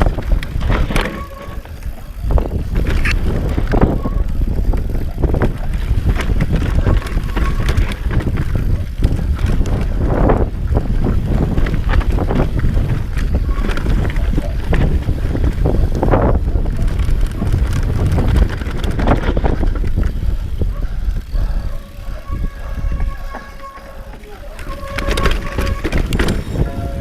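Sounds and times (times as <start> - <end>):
bike rattling over bumps: 0.0 - 27.0
wind buffeting microphone: 0.0 - 27.0.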